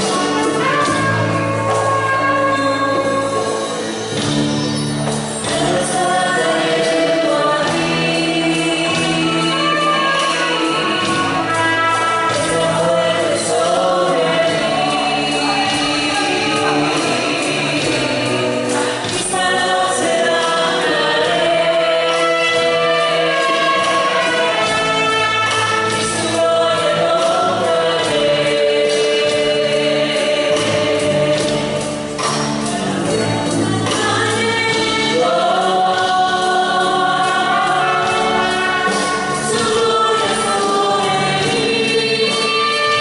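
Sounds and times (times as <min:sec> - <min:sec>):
choir singing worship song: 0:00.0 - 0:43.0
instrumental accompaniment with beat: 0:00.0 - 0:43.0.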